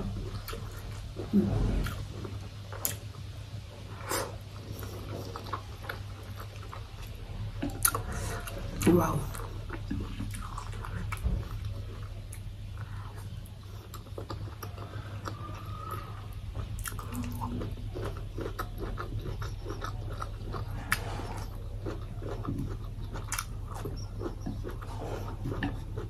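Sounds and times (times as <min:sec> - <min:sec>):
steady low hum: 0:00.0 - 0:26.0
person chewing and biting food: 0:04.0 - 0:26.0.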